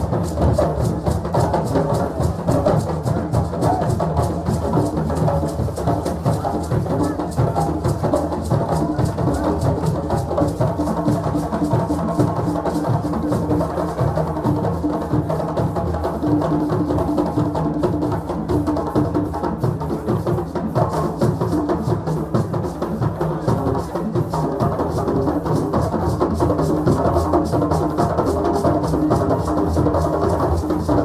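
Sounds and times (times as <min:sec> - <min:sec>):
drums playing fast rhythm: 0:00.0 - 0:31.0.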